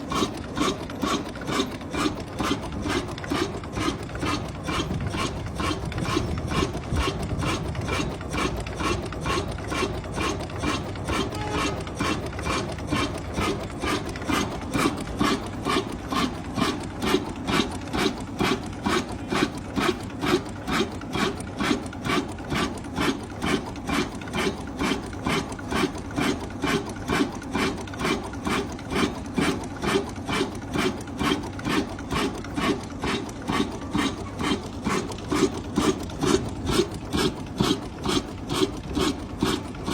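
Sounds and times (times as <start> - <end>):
old diesel engine running: 0.0 - 39.9.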